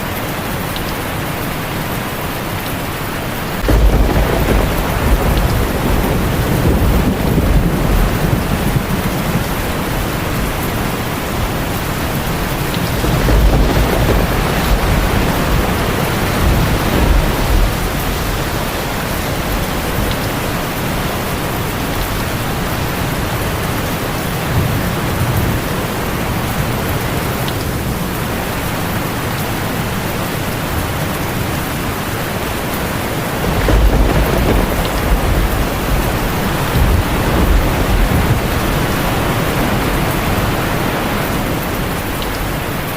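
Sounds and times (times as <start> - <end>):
heavy rain on a tin roof: 0.0 - 42.9
thunder rolling: 3.6 - 30.0, 30.9 - 42.9.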